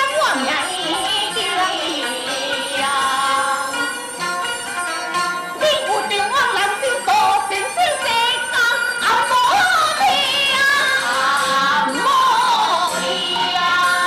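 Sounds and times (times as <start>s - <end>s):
opera music with sliding melody: 0.0s - 14.0s.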